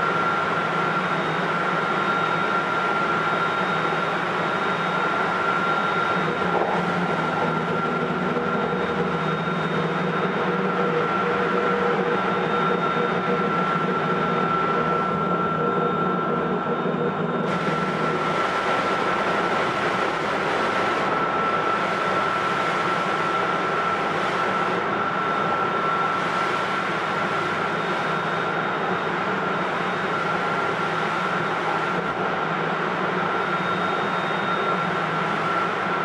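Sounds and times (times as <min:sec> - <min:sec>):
steady high motor tone: 0:00.0 - 0:36.0.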